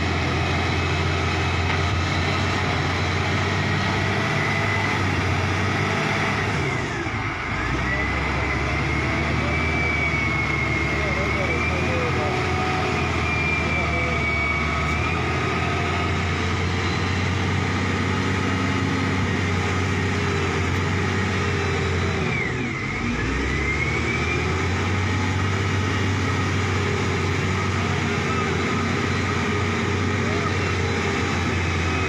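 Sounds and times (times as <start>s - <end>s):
diesel engine revving: 0.0s - 32.0s.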